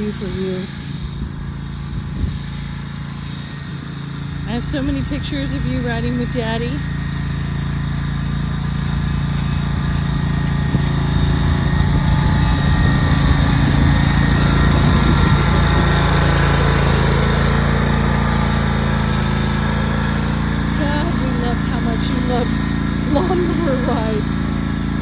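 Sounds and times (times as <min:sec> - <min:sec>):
riding lawn mower engine: 0:00.0 - 0:25.0.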